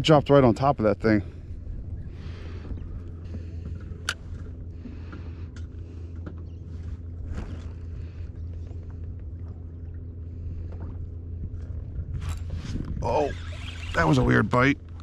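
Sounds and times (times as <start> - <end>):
water around a kayak: 0.0 - 15.0
wind: 0.0 - 15.0.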